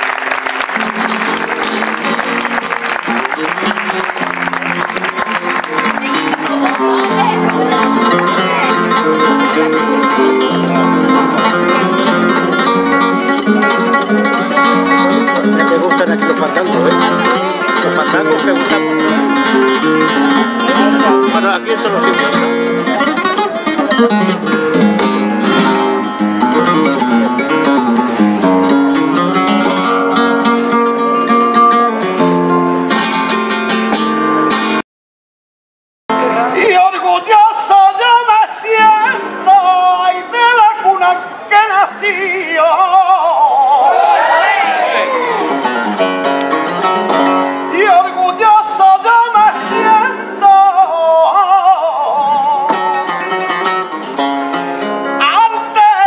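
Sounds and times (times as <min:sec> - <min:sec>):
flamenco guitar strumming: 0:00.0 - 0:34.8, 0:36.1 - 0:56.0.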